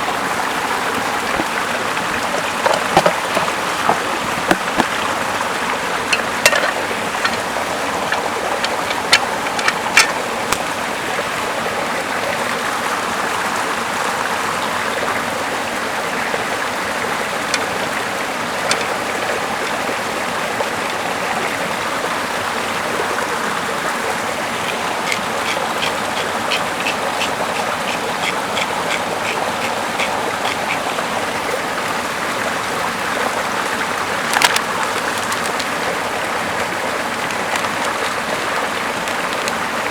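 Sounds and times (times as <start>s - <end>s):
river and waterfall running: 0.0s - 39.9s.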